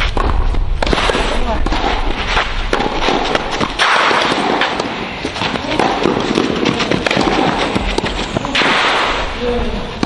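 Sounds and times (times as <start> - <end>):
tennis racket hitting ball: 0.0 - 9.1.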